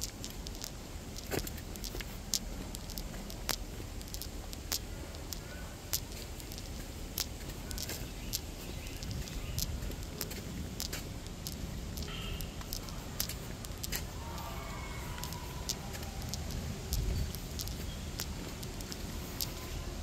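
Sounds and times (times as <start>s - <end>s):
footsteps crunching on leaves: 0.2s - 20.0s.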